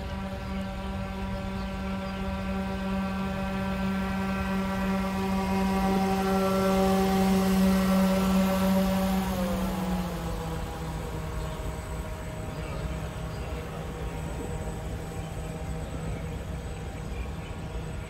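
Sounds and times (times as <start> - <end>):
model boat motor humming: 0.0 - 18.0.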